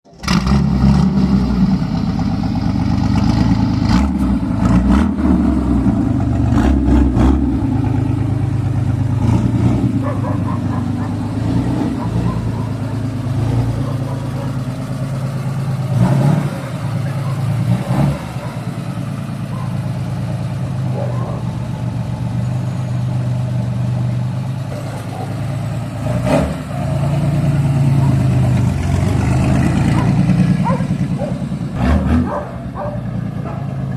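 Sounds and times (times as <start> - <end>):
engine revving: 0.1 - 21.6, 23.8 - 33.9
car engine rumbling: 0.1 - 33.9.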